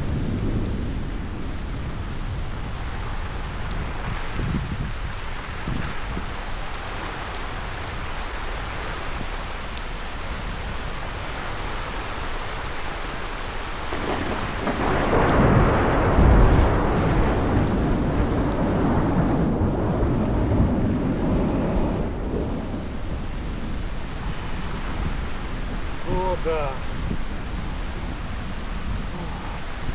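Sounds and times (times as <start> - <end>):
heavy rain: 0.0 - 29.9
thunder rolling: 0.0 - 29.9.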